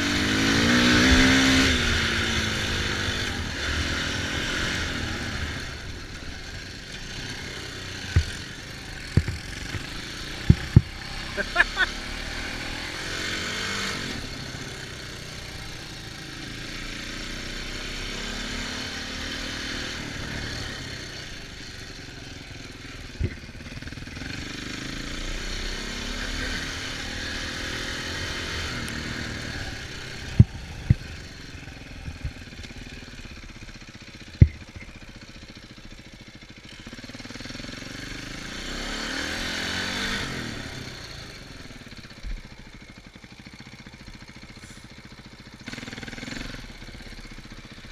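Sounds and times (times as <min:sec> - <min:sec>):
dirt bike engines revving: 0:00.0 - 0:42.2, 0:45.6 - 0:47.9.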